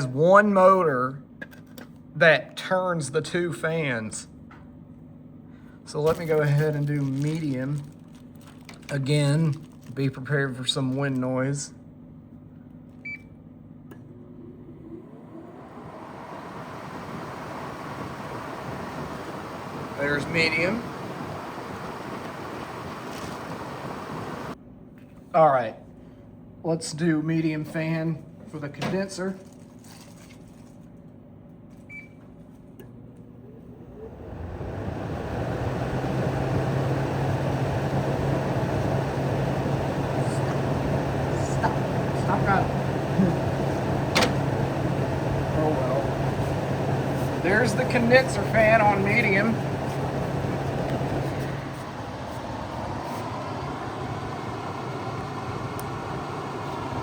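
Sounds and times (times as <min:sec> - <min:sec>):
air conditioner fan blowing: 0:05.1 - 0:24.6, 0:25.4 - 0:57.0.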